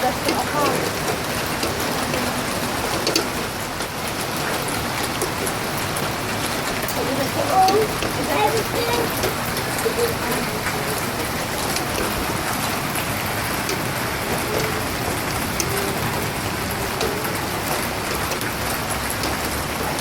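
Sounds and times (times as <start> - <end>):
heavy rain pouring: 0.0 - 20.0
raindrops striking surfaces: 0.0 - 20.0.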